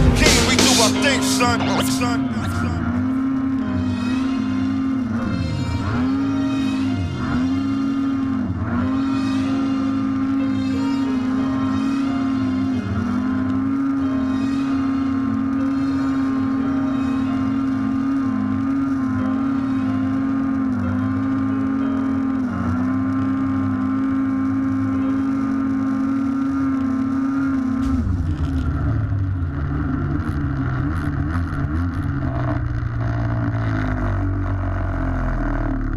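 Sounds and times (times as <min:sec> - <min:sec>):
snowmobile engine revving: 0:00.0 - 0:35.9.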